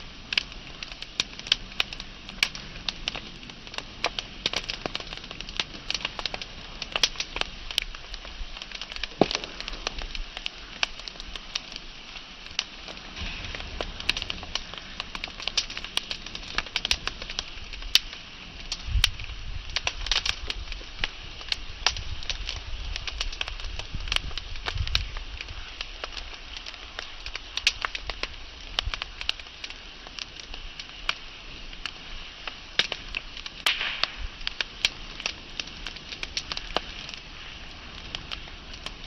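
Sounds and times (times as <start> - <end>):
fire hissing: 0.0 - 39.0
logs crackling and popping: 0.0 - 39.0.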